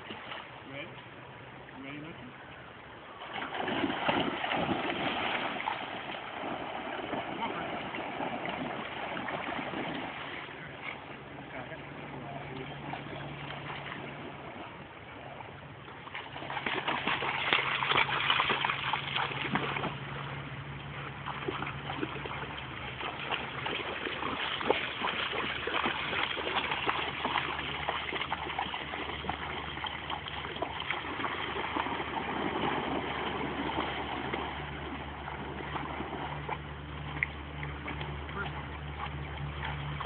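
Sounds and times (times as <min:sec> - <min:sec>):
river water splashing: 0:00.0 - 0:40.0
steady low hum: 0:00.0 - 0:40.0.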